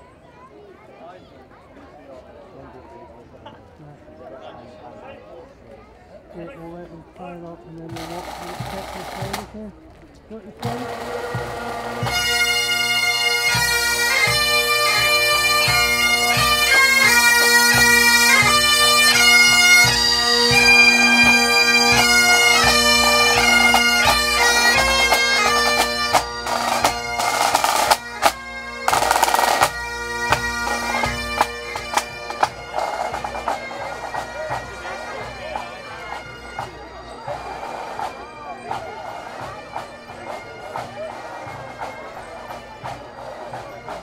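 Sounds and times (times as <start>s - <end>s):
bagpipes playing a march: 6.4s - 9.7s, 10.3s - 44.0s.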